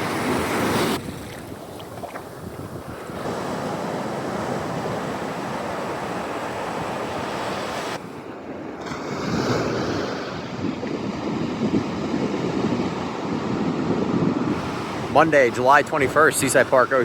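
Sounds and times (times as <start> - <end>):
surf washing up on beach: 0.0 - 17.0.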